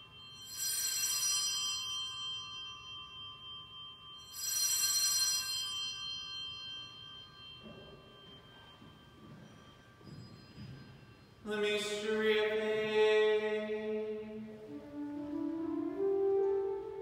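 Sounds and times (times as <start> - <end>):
altar bells ringing: 0.0 - 14.4.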